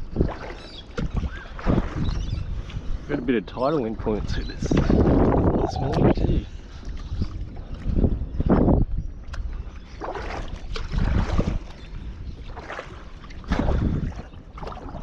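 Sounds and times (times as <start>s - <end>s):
paddle splashing through water: 0.0s - 2.9s, 4.0s - 8.1s, 9.3s - 15.0s
wind rumble on microphone: 0.0s - 15.0s.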